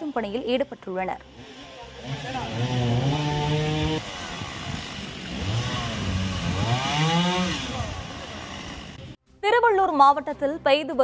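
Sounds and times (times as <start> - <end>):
chainsaw revving and cutting: 0.0 - 9.2.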